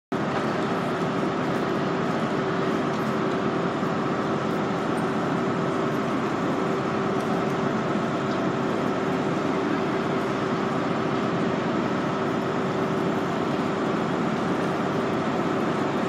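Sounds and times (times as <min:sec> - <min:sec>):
trains humming at station: 0:00.2 - 0:16.0.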